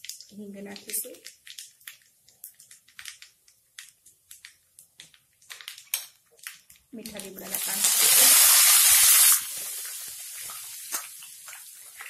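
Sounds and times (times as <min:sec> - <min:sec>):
seeds crackling in hot oil: 0:00.0 - 0:12.0.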